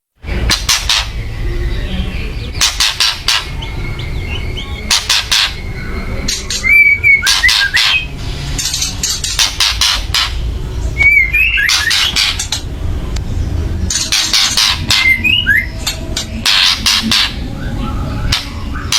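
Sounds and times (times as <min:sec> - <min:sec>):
bird harsh rattling calls: 0:00.2 - 0:18.9.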